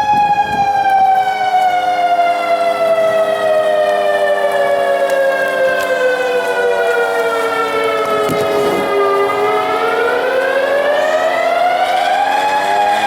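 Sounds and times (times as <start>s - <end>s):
steady low siren tone: 0.0s - 13.0s
wailing warning siren: 0.0s - 13.0s.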